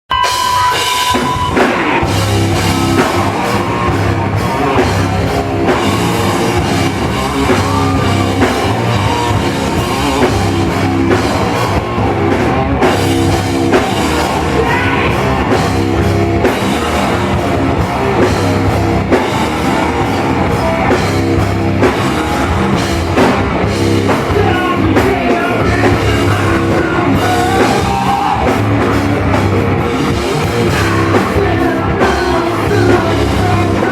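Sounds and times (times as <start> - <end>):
loud rock music: 0.1 - 33.9.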